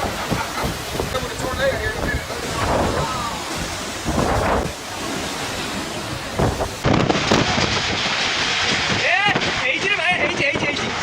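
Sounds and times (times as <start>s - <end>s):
rain: 0.0s - 11.0s
stormy wind buffeting microphone: 0.0s - 11.0s.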